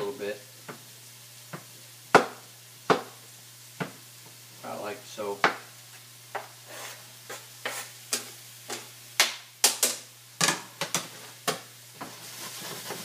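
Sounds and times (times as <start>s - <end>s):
vegetables sizzling in skillet: 0.0s - 13.0s.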